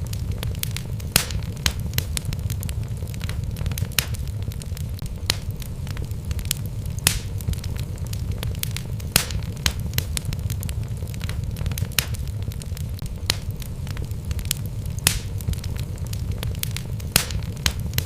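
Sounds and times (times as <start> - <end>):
logs burning in fireplace: 0.0 - 18.0.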